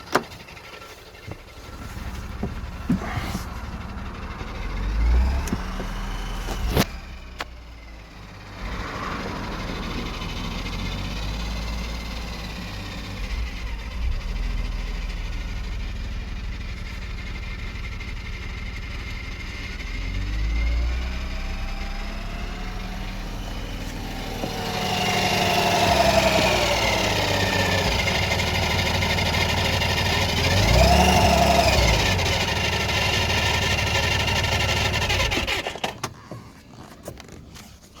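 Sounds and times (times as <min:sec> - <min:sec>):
exhaust rattle: 0:00.0 - 0:38.0
car engine revving: 0:00.9 - 0:16.6, 0:19.6 - 0:36.3.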